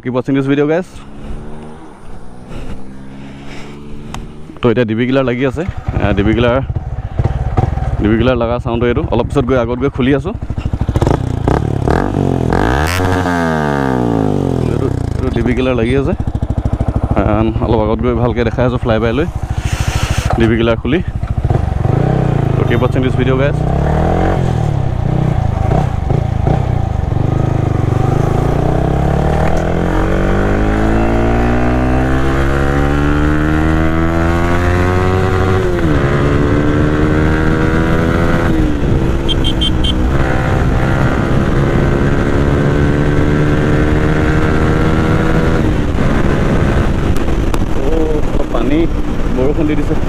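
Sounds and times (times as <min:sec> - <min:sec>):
motorcycle engine accelerating: 0:00.4 - 0:50.0.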